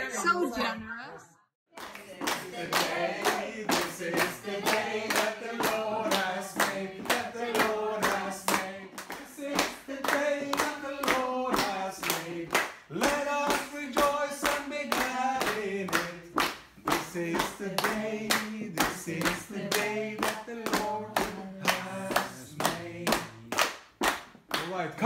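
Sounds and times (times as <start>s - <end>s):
people singing together: 1.8s - 23.6s
hands clapping in time: 1.8s - 24.8s.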